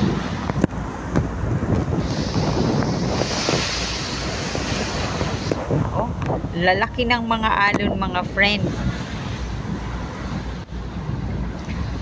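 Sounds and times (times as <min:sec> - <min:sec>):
waves splashing against hull: 0:00.0 - 0:12.0
wind buffeting microphone: 0:00.0 - 0:12.0.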